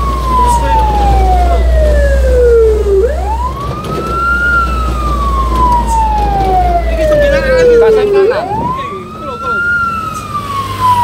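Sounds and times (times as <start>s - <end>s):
fire truck siren wailing: 0.0s - 11.0s.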